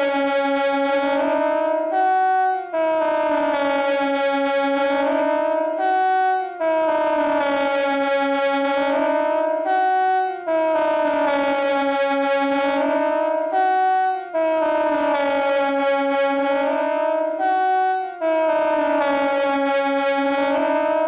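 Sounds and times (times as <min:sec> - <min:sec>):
civil defence siren: 0:00.0 - 0:21.0.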